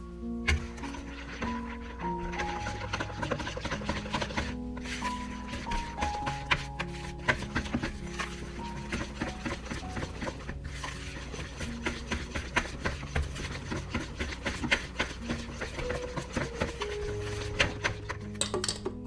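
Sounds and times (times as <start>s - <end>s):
whisk beating batter in bowl: 0.4s - 18.4s.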